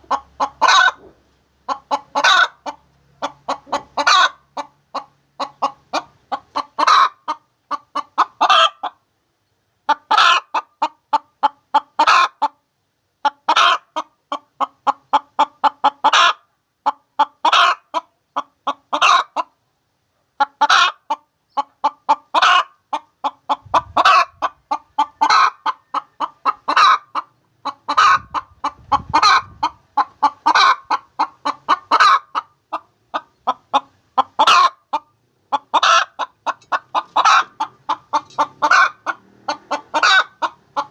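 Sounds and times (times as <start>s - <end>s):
hen cackling: 0.0s - 9.0s, 9.9s - 12.6s, 13.2s - 19.5s, 20.4s - 40.9s.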